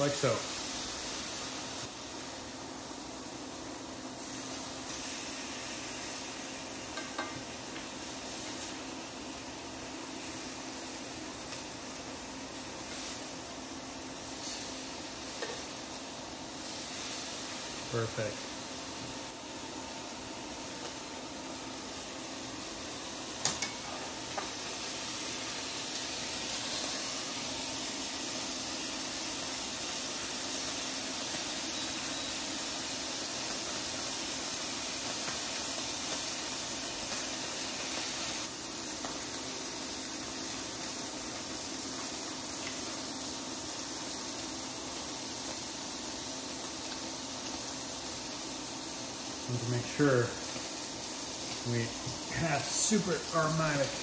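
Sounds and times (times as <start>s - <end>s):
steaks sizzling in a skillet: 0.0s - 54.0s.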